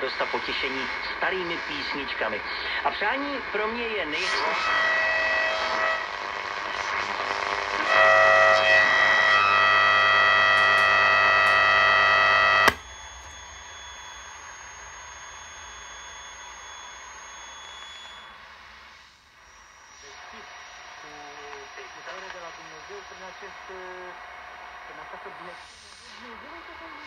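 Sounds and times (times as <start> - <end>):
quiet radio hiss: 0.0 - 4.3, 5.0 - 27.0
radio static buzzing: 0.0 - 27.0
radio whistles: 4.1 - 27.0.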